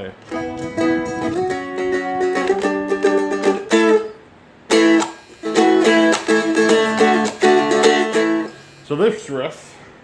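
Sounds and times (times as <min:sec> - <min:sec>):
guitar chords strummed: 0:00.1 - 0:08.8.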